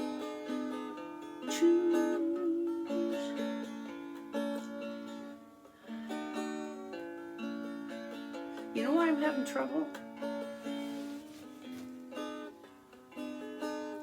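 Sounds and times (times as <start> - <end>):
plucked string instrument: 0.0 - 14.0.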